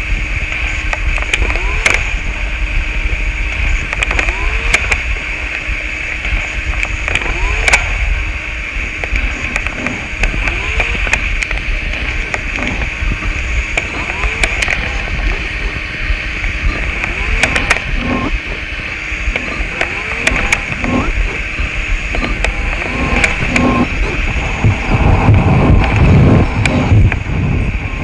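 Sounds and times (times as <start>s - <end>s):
low rumble: 0.0s - 28.0s
steady high hiss: 0.0s - 28.0s
sharp clicks: 0.5s - 2.2s, 3.5s - 8.2s, 8.9s - 27.3s.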